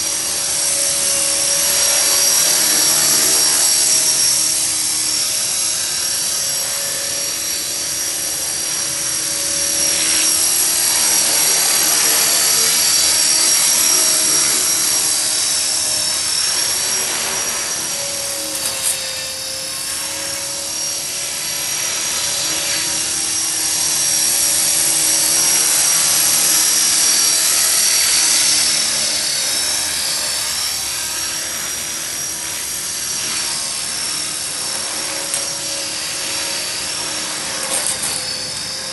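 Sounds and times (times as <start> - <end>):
rc helicopter high-pitched whine: 0.0 - 38.9.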